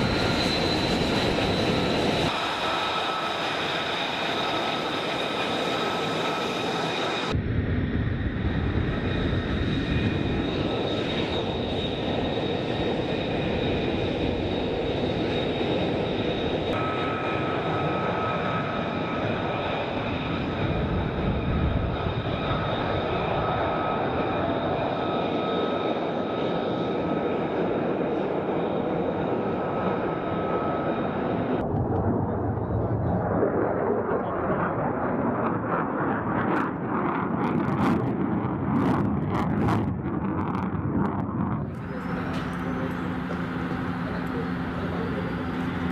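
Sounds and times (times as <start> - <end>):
jet engine whine: 0.0 - 45.9.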